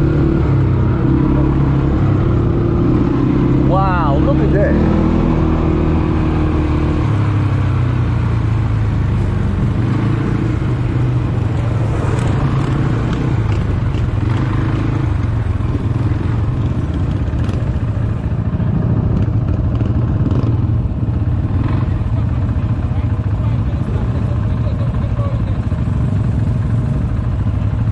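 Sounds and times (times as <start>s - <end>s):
atv engine running: 0.0s - 27.9s.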